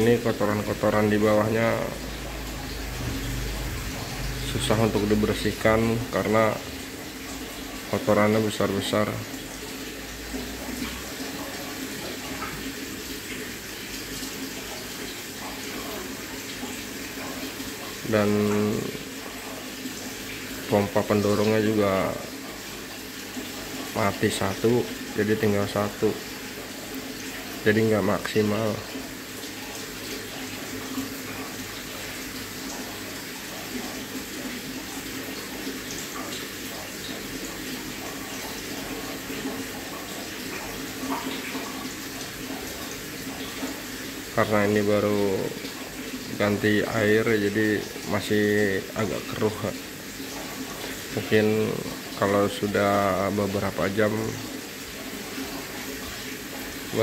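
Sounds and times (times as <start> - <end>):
aquarium water rushing: 0.0 - 57.0.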